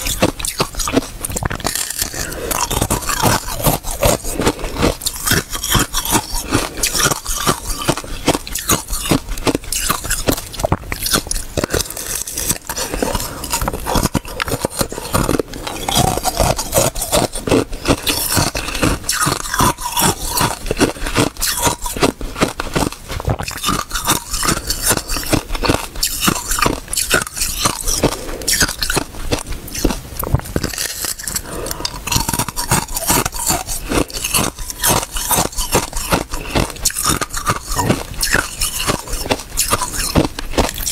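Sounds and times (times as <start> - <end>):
ice being bitten and chewed: 0.0 - 40.9.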